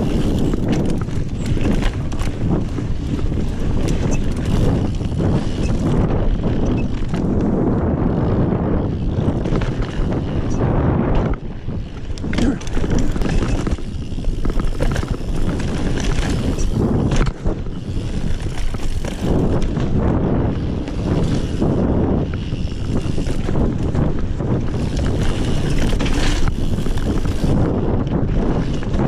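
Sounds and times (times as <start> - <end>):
bike rattling over bumps: 0.0 - 29.0
bike tyres skidding on dirt: 0.0 - 29.0
wind buffeting microphone: 0.0 - 29.0.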